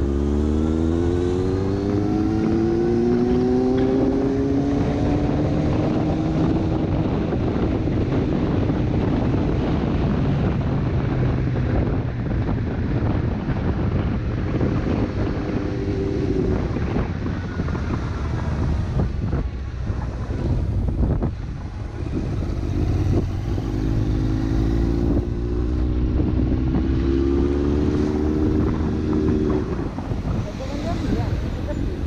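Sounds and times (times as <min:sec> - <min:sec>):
motorcycle engine accelerating: 0:00.0 - 0:32.0
wind noise on microphone: 0:00.0 - 0:32.0.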